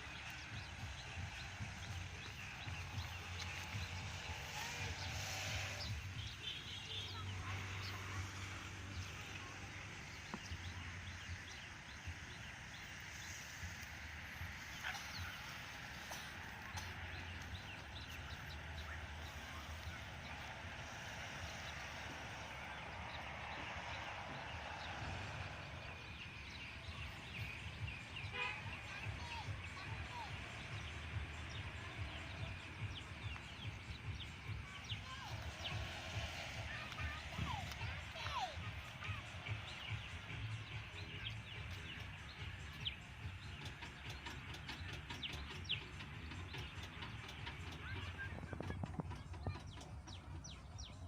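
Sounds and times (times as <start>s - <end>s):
low outdoor background rumble: 0.0s - 51.0s
small birds chirping: 0.0s - 51.0s.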